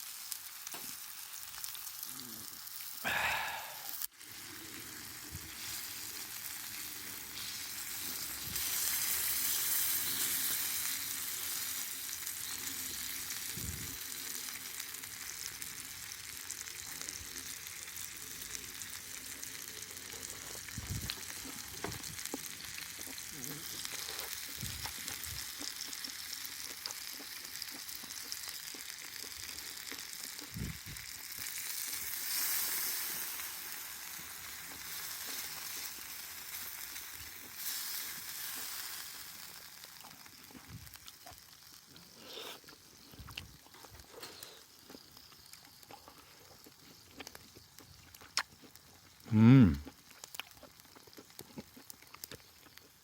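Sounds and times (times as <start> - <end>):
meat sizzling in a pan: 0.0 - 53.0.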